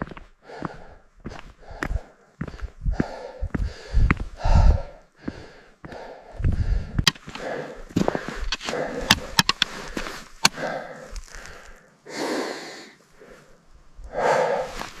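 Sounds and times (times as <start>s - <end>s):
footsteps on stony path: 0.0s - 11.8s, 14.6s - 15.0s
person breathing: 0.4s - 15.0s.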